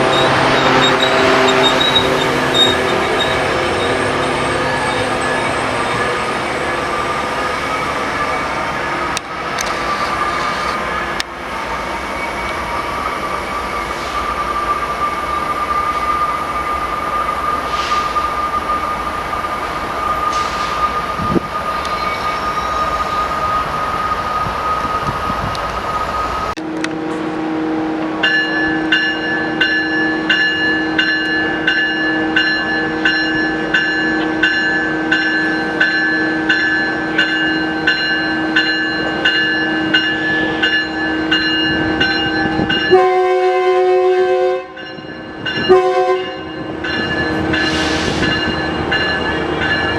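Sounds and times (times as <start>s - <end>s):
train wheels squealing: 0.0s - 26.5s, 28.5s - 43.0s, 44.8s - 49.9s
railroad crossing bell ringing: 0.0s - 27.2s, 28.0s - 49.9s
train wheels rumbling: 0.0s - 49.9s.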